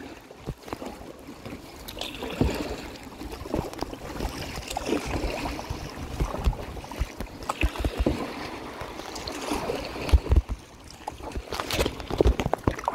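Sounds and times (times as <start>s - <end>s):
water splashing at hull: 0.0s - 12.9s.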